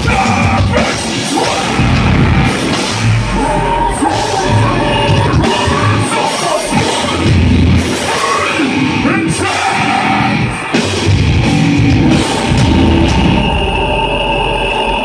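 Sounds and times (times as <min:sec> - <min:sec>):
bass guitar: 0:00.0 - 0:15.0
distorted electric guitars: 0:00.0 - 0:15.0
drums: 0:00.0 - 0:15.0
vocalist singing: 0:00.0 - 0:15.0.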